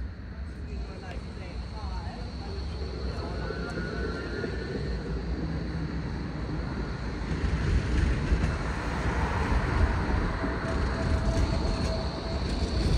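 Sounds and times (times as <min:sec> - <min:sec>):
traffic rumble: 0:00.0 - 0:12.9
wind buffeting microphone: 0:00.0 - 0:12.9.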